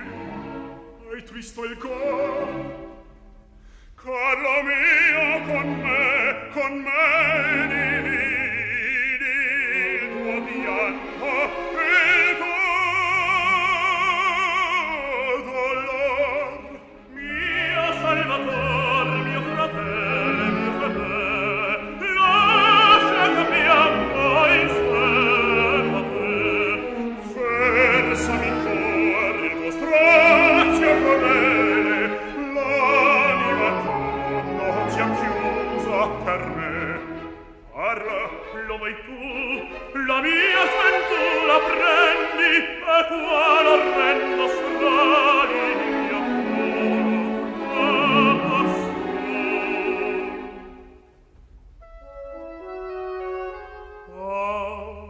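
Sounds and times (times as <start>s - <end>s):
operatic singing voice: 0.0s - 3.1s, 4.0s - 50.9s, 54.0s - 55.0s
orchestra playing: 0.0s - 55.0s.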